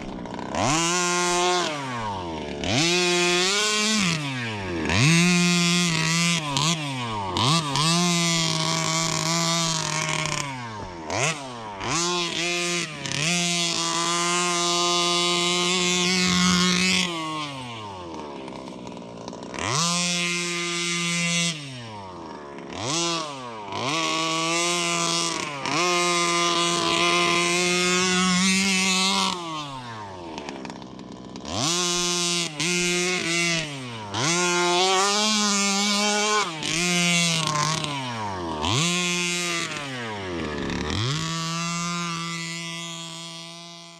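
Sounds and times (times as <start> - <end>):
two-stroke engine revving: 0.0 - 43.9.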